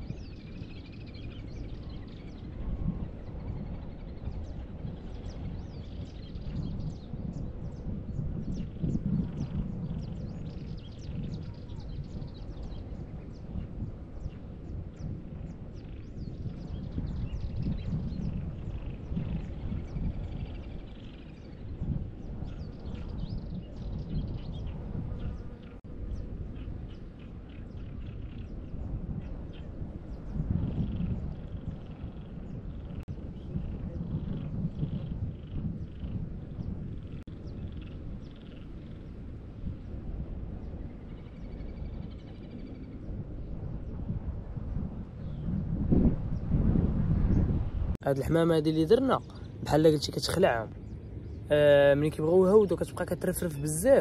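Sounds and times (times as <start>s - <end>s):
small birds chirping and trilling: 0.0s - 46.6s, 47.2s - 54.0s
low rumble: 7.7s - 53.0s.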